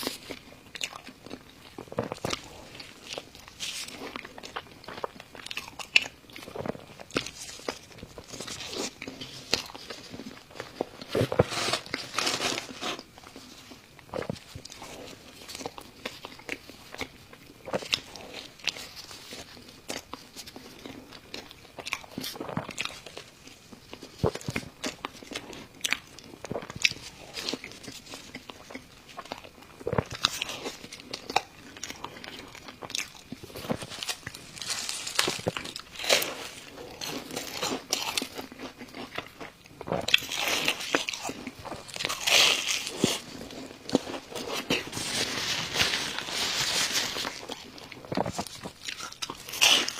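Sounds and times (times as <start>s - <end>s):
person chewing a burger: 0.0s - 49.9s.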